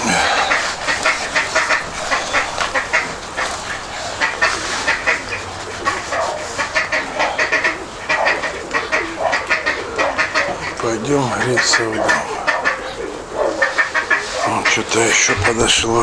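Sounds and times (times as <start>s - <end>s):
waterfowl nasal calls: 0.0s - 16.0s.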